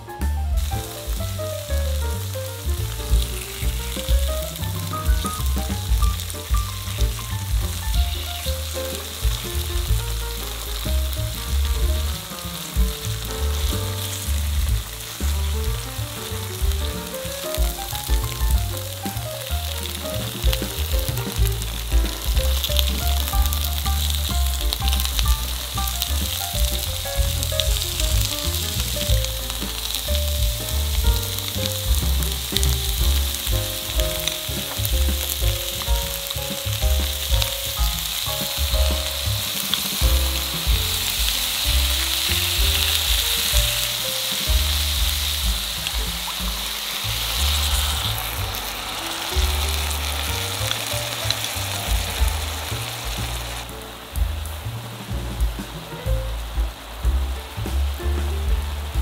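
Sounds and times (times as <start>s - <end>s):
light background music: 0.0s - 59.0s
food sizzling in a frying pan: 0.6s - 59.0s.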